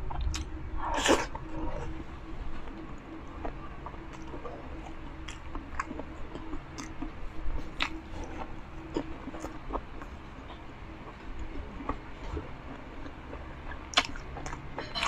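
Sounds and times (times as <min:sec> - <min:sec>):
person chewing food: 0:00.1 - 0:14.8.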